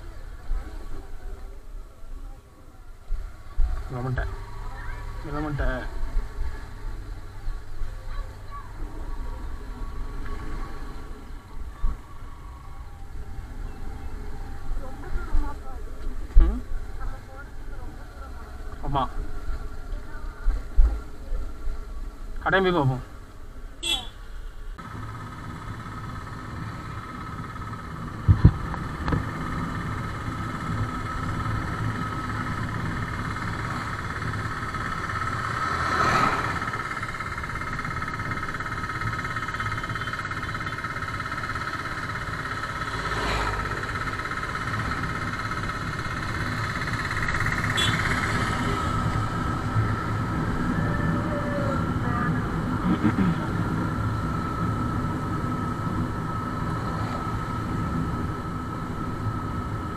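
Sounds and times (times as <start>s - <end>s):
motorcycle engine hum: 0.0s - 59.9s
road and wind noise: 0.0s - 59.9s.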